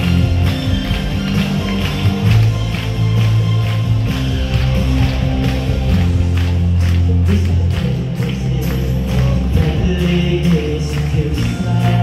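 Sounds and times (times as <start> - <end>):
upbeat music with heavy bass: 0.0 - 12.0.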